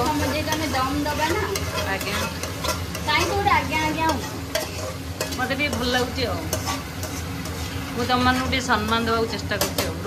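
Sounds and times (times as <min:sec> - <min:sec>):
food sizzling: 0:00.0 - 0:10.0
spoon scraping metal bowl: 0:00.0 - 0:10.0.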